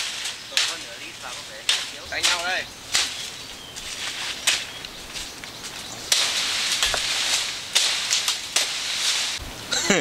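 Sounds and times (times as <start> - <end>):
crackling in dry undergrowth: 0.0 - 9.8.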